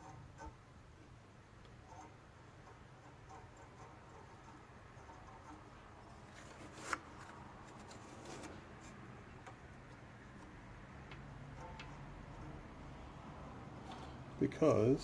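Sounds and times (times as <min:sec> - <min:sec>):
small metal parts ticking and rubbing: 0:00.0 - 0:14.2.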